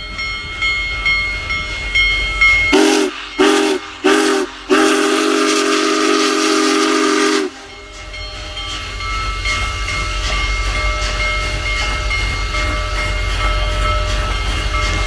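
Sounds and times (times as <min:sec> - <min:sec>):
rumble of passing train: 0:00.0 - 0:15.0
steam locomotive chime whistle: 0:00.0 - 0:15.0.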